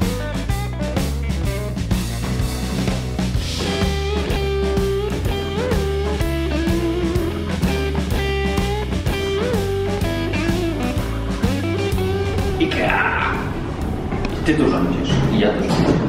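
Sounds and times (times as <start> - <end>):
electric guitar melody: 0.0 - 15.0
steady drum beat: 0.0 - 15.4
bass: 0.0 - 16.0.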